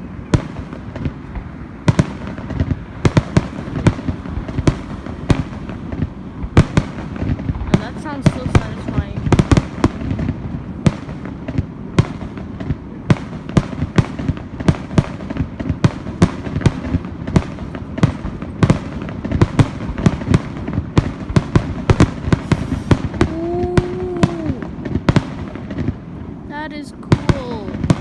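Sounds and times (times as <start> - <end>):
fireworks bangs and cracks: 0.0 - 28.0
low rumble of distant bursts: 0.0 - 28.0.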